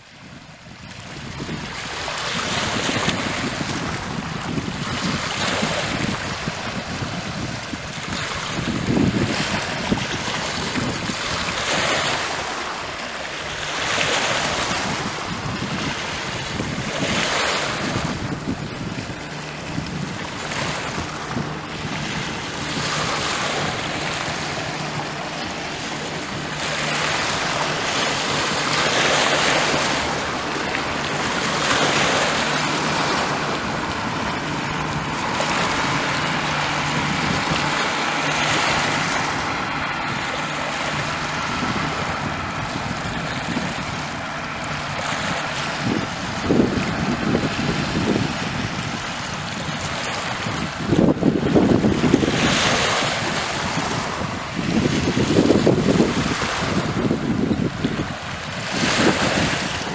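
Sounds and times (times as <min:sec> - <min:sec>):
waves washing over pebble beach: 0:00.9 - 0:59.9.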